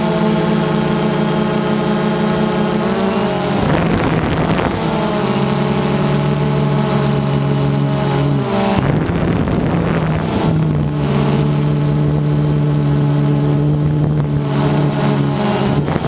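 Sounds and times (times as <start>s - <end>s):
drone motors humming: 0.0s - 16.0s
wind noise: 2.8s - 16.0s.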